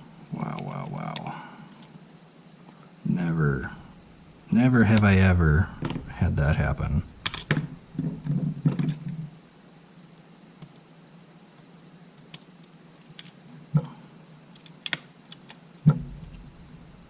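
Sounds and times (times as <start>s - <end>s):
steady low hum: 0.0s - 14.6s, 15.7s - 17.0s.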